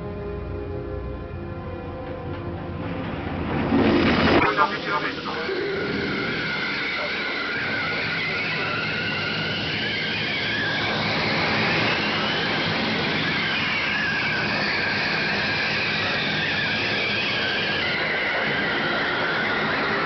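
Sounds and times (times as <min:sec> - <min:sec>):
car engine whine: 0:00.0 - 0:20.0
steady rushing noise: 0:02.5 - 0:20.0.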